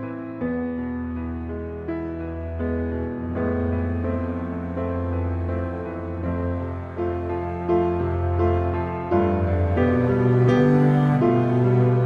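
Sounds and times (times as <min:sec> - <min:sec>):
slow instrumental music: 0:00.0 - 0:12.0
steady low drone: 0:01.7 - 0:12.0.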